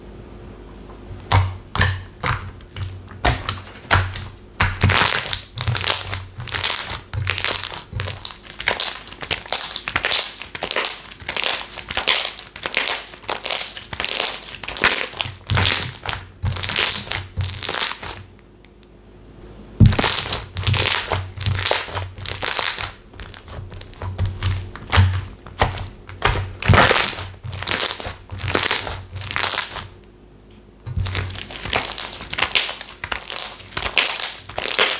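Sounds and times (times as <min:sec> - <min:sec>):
slime squishing and crackling: 0:01.2 - 0:18.3, 0:19.8 - 0:30.0, 0:30.9 - 0:34.9.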